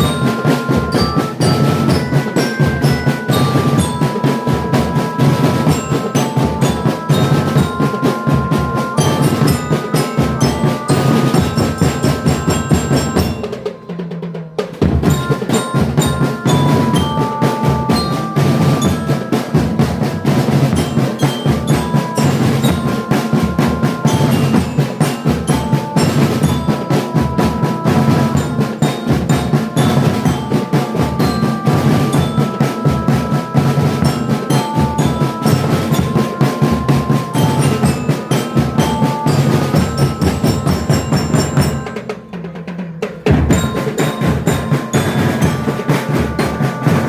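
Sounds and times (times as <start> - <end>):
mallet percussion melody: 0.0 - 47.0
snare drum patterns: 0.0 - 47.0.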